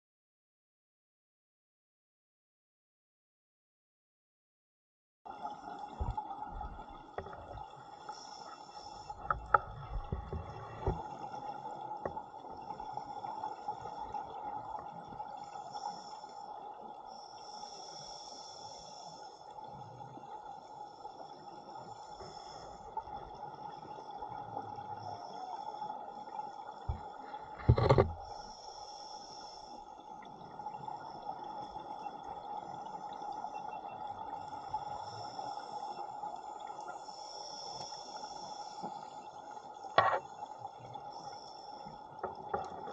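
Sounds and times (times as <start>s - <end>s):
muffled underwater hiss: 5.3s - 42.9s.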